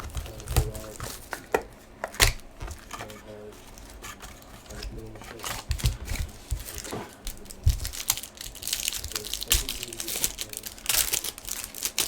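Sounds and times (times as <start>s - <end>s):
cards shuffling with clicks: 0.0s - 12.0s
plastic wrapper crinkling: 0.0s - 12.0s.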